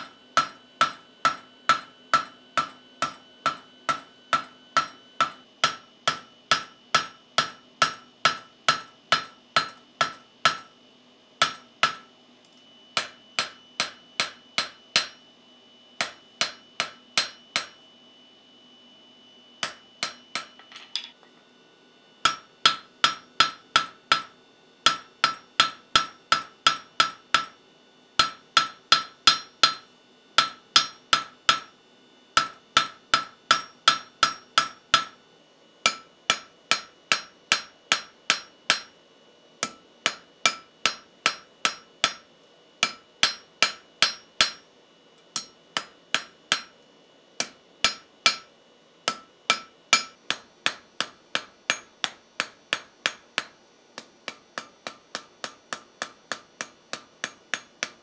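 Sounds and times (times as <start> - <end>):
hammer striking steel on anvil: 0.0 - 10.8, 11.4 - 12.1, 13.0 - 15.2, 16.0 - 17.8, 19.6 - 21.4, 22.2 - 27.6, 28.2 - 31.7, 32.4 - 35.2, 35.8 - 39.0, 39.6 - 44.7, 45.3 - 46.8, 47.4 - 58.0.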